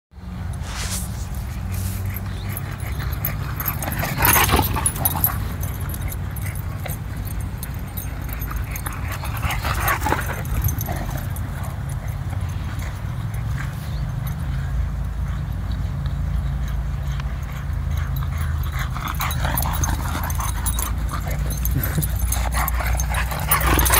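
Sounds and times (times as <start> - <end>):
dogs vocalising: 1.3 - 23.9.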